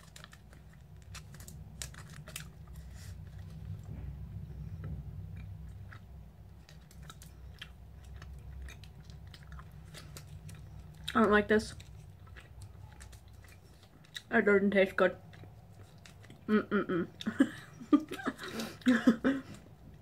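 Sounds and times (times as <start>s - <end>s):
low steady hum: 0.0s - 20.0s
person chewing sticky candy: 0.0s - 20.0s.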